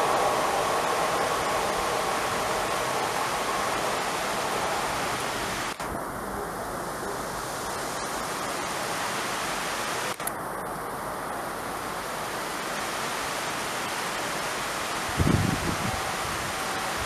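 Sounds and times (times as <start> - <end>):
heavy rain: 0.0 - 17.0
train wake spray: 0.0 - 17.0.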